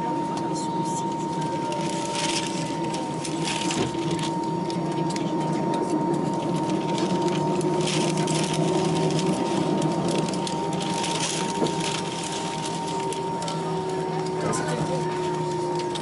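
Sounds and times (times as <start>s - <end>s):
aircraft cabin hum: 0.0s - 16.0s
thin steady whine: 0.0s - 16.0s.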